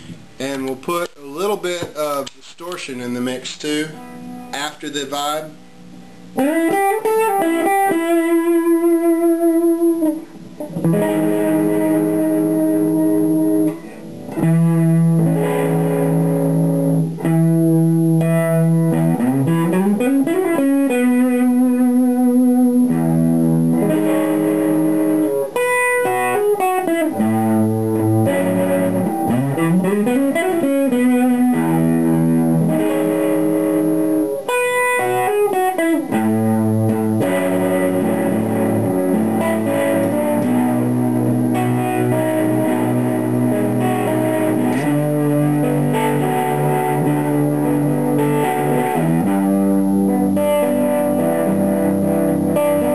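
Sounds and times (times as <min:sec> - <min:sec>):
electric guitar playing: 0:03.2 - 0:52.9.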